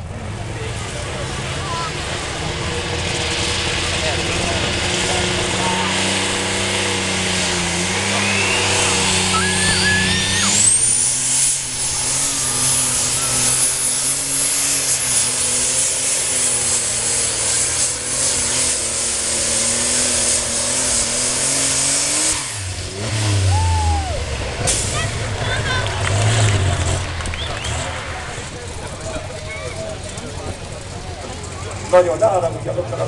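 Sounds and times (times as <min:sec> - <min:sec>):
diesel engine idling with whine: 0:00.0 - 0:33.0.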